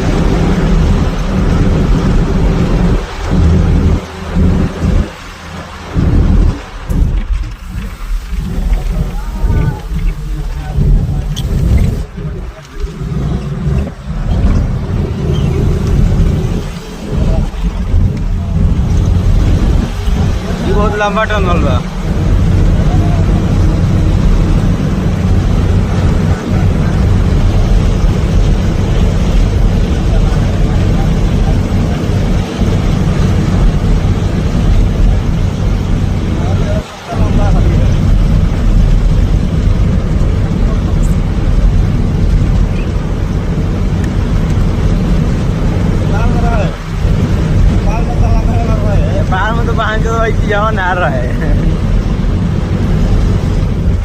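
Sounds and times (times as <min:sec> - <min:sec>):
bus rumbling: 0:00.0 - 0:54.0
wind buffeting microphone: 0:00.0 - 0:54.0.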